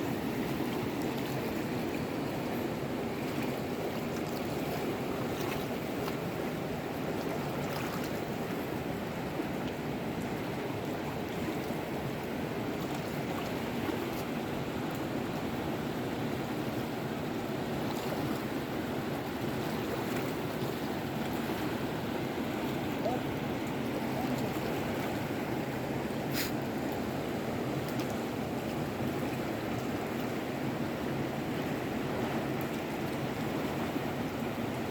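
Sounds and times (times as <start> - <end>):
flowing water rushing: 0.0 - 34.9.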